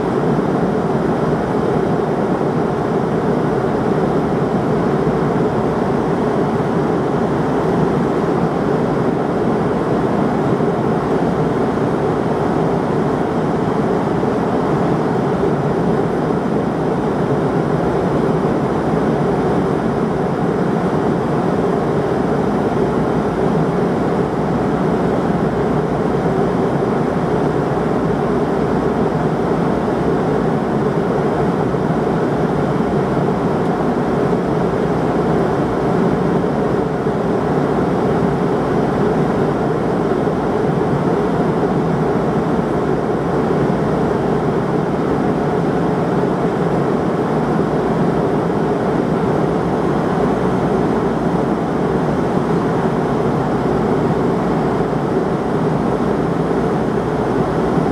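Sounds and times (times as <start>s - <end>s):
airliner cabin engine and airflow rush: 0.0s - 57.9s.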